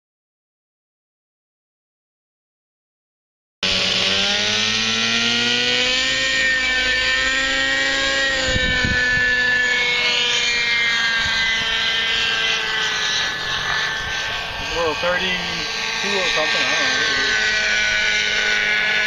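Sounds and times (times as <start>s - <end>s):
rc helicopter whine: 3.6s - 19.0s.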